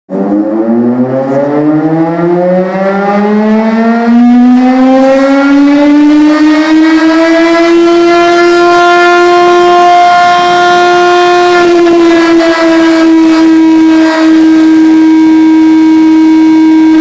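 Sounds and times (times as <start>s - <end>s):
air-raid siren wailing: 0.1s - 17.0s.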